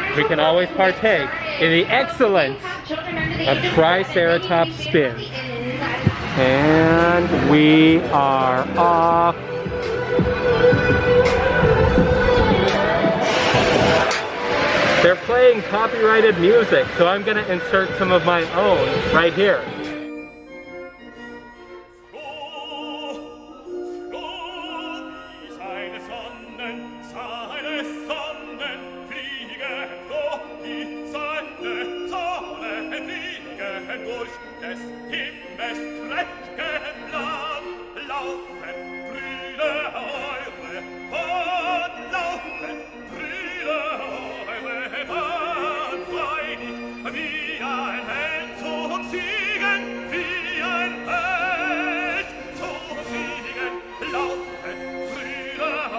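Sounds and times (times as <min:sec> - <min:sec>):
orchestral accompaniment: 0:00.0 - 0:55.9.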